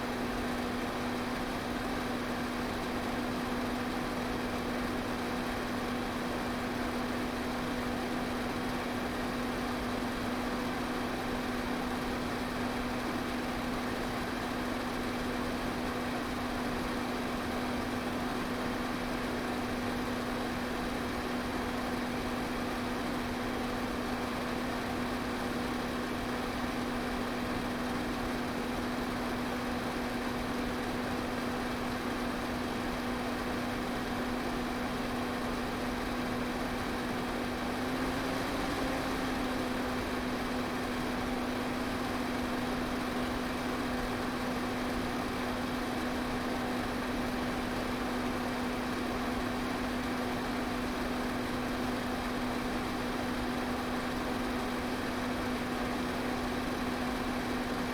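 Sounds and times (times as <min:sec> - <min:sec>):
electric fan running: 0:08.0 - 0:57.9.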